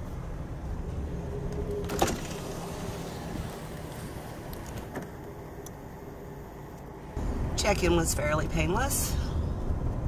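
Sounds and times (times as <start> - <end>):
van engine rumbling: 0.0 - 10.0.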